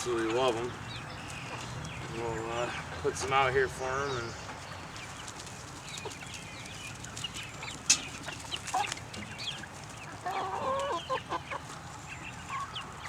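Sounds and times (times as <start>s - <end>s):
young chickens clucking and chirping: 0.0s - 13.0s.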